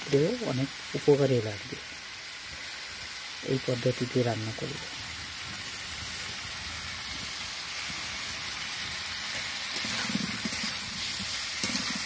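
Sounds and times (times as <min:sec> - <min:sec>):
vegetables frying in hot oil: 0:00.0 - 0:12.0.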